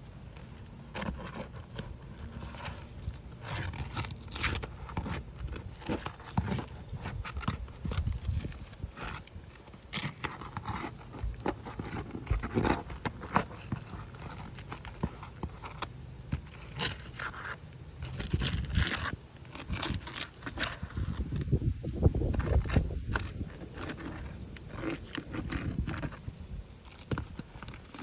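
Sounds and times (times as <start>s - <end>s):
scraping and rubbing by hand: 0.0s - 28.0s.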